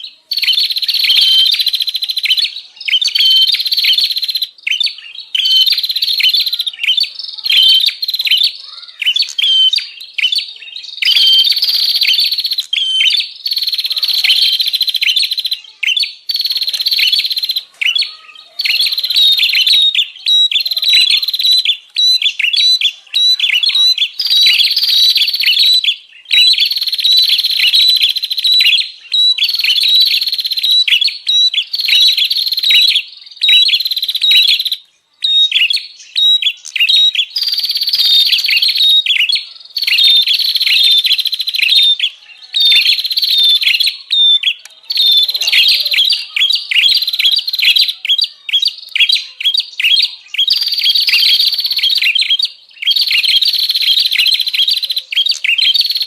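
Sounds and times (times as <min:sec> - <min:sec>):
bird chattering rapidly: 0:00.0 - 0:56.0.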